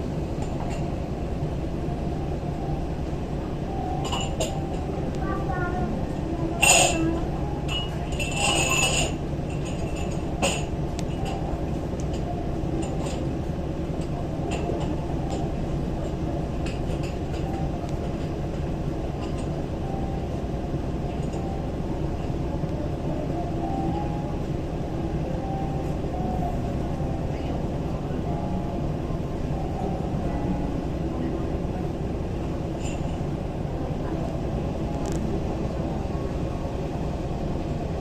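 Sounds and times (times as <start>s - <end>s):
ship engines rumbling: 0.0s - 38.0s.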